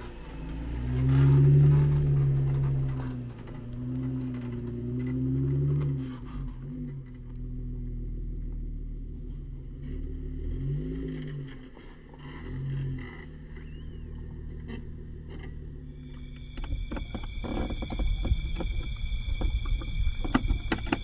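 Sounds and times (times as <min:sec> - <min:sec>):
car engine running at low speed: 0:00.0 - 0:21.0.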